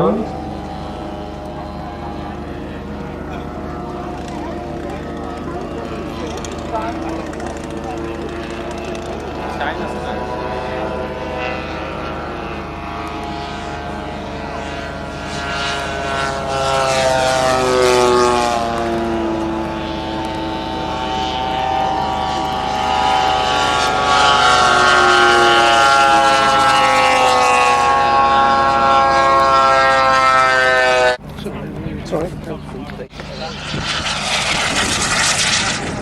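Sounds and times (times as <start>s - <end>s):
model plane propeller engine: 0.0s - 36.0s.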